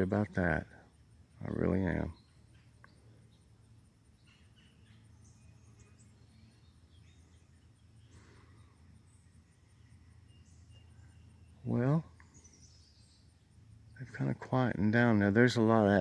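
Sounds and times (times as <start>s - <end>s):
bird chirps: 0.0s - 16.0s
steady low hum: 0.0s - 16.0s.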